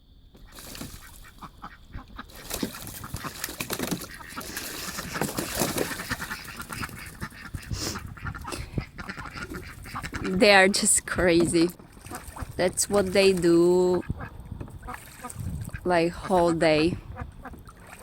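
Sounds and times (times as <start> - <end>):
ducks quacking: 0.4 - 18.0
water splashing: 0.4 - 18.0.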